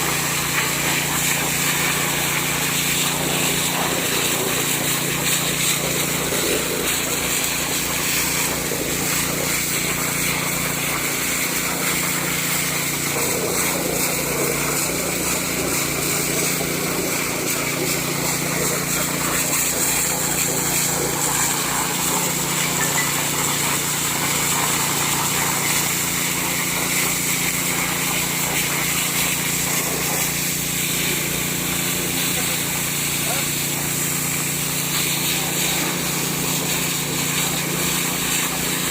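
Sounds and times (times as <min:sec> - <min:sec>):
petrol water pump running: 0:00.0 - 0:38.9.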